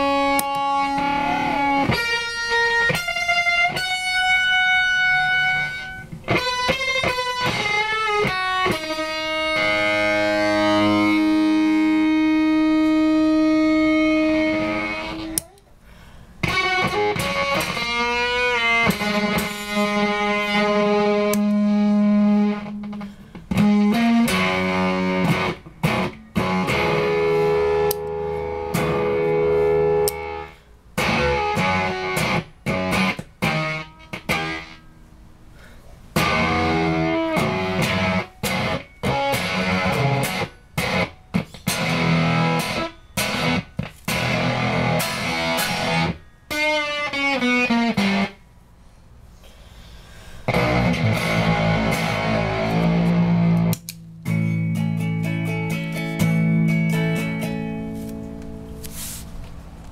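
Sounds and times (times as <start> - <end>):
electric guitar with wavering notes: 0.0 - 15.7, 16.4 - 35.1, 36.1 - 48.5, 50.5 - 58.8.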